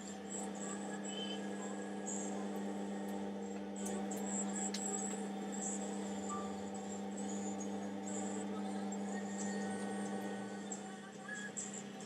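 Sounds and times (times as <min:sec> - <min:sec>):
pottery wheel motor hum: 0:00.0 - 0:12.0.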